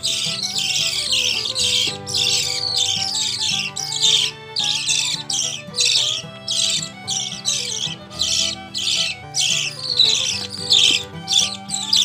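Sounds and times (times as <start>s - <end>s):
budgerigar chicks calling: 0.0s - 12.0s
instrumental music: 0.0s - 12.0s.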